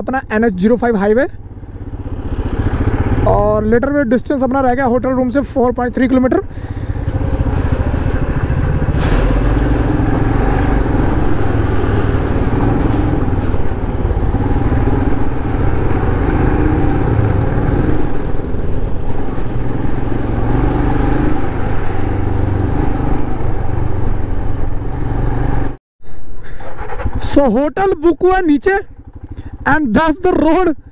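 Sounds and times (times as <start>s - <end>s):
road and wind noise: 0.0s - 30.9s
motorcycle engine running: 1.4s - 4.1s, 4.7s - 25.4s, 26.7s - 30.9s.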